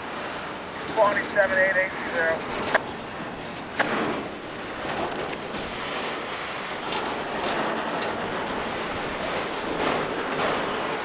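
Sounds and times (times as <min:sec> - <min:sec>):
train wheels rolling on rail: 0:00.0 - 0:11.0.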